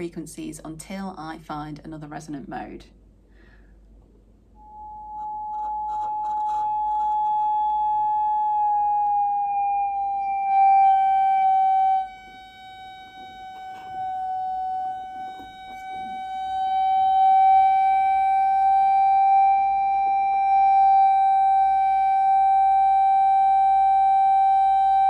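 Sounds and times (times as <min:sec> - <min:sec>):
steady electronic tone: 0:04.5 - 0:25.0.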